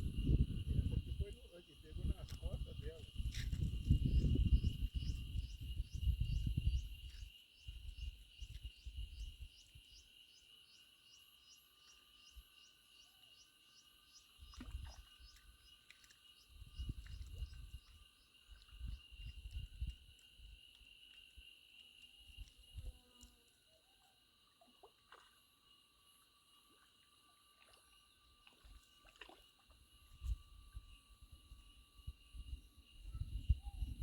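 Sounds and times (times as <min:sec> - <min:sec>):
crickets trilling: 0:00.0 - 0:34.0
pulsing insect chirp: 0:00.0 - 0:34.0.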